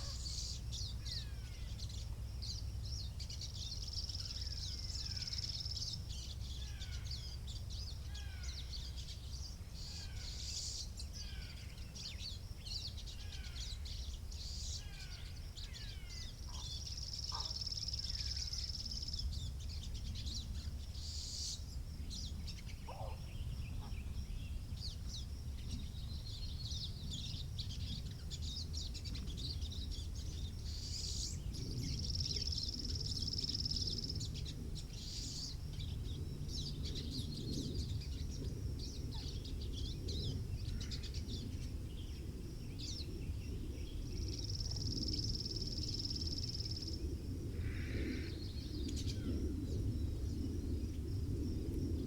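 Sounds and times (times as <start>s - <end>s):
songbirds chirping and singing: 0.0s - 50.9s
wind rumble on microphone: 0.0s - 52.0s.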